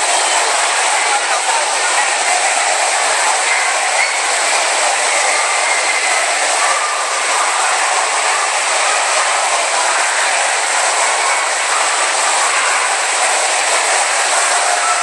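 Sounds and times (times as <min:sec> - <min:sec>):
crowd chatter and shouts: 0:00.0 - 0:15.0
splashing water from fountains: 0:00.0 - 0:15.0.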